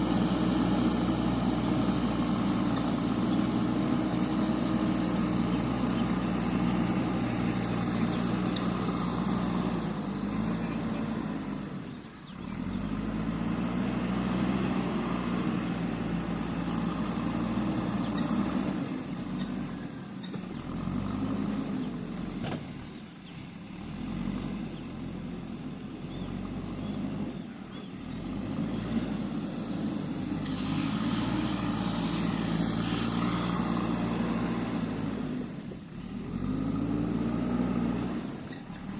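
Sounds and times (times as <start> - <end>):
backhoe diesel engine under load: 0.0 - 38.9.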